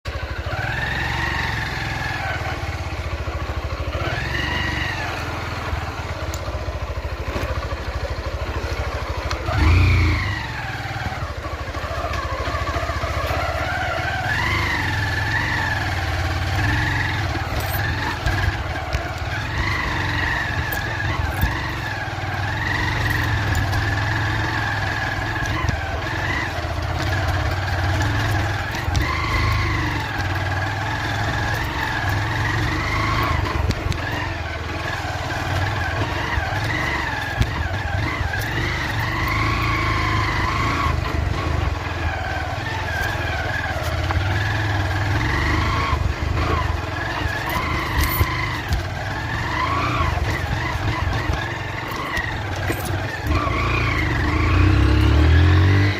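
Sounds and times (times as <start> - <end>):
motorcycle engine revving: 0.0 - 55.9
wind and rough ground rumble: 0.1 - 55.9.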